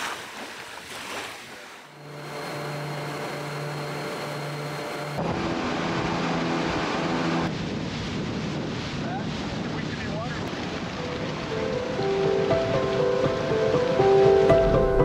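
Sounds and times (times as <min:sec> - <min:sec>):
water rushing and splashing: 0:00.0 - 0:15.0
motorboat engine droning: 0:01.6 - 0:15.0.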